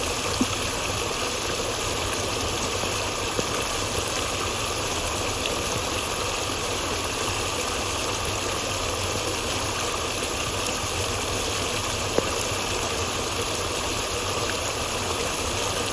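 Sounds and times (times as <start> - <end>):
flowing water rushing: 0.0 - 15.9.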